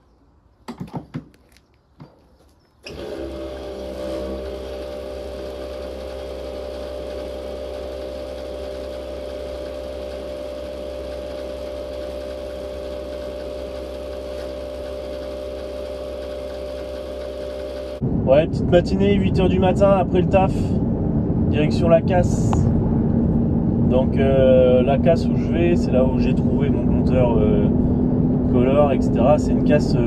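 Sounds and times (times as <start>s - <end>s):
fuel pump humming: 2.8s - 18.4s, 20.4s - 30.0s.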